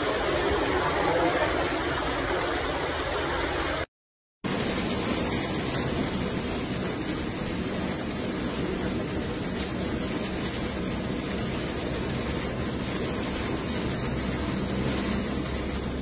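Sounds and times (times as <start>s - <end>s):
floodwater rushing: 0.0s - 3.9s, 4.5s - 16.0s.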